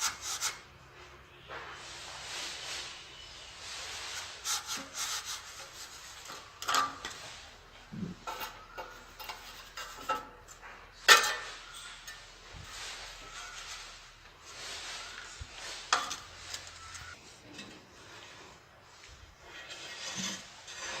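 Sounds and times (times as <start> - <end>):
tile scraping and rubbing: 1.5 - 21.0.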